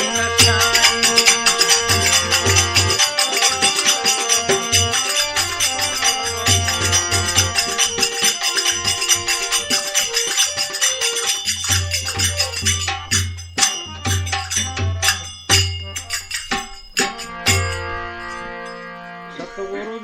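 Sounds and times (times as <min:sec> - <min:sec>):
fast jingling percussion: 0:00.0 - 0:19.1
held melody notes: 0:00.0 - 0:20.0.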